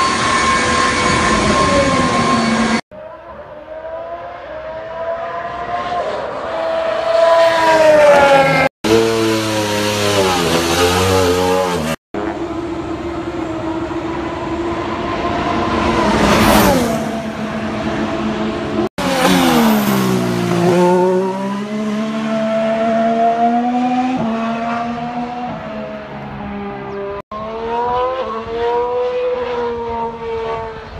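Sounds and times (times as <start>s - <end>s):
racing car engines: 0.0s - 30.9s.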